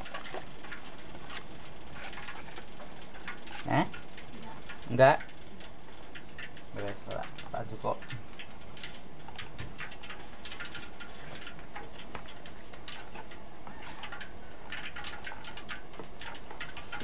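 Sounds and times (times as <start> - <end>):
crackles and ticks from heating woks: 0.0 - 17.0.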